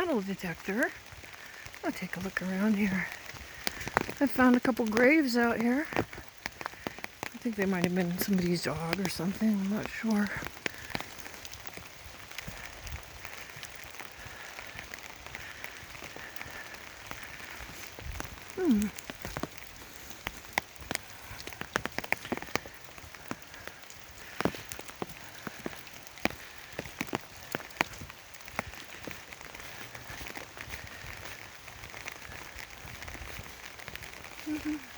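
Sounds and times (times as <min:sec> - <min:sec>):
rain pattering on an umbrella: 0:00.0 - 0:34.9.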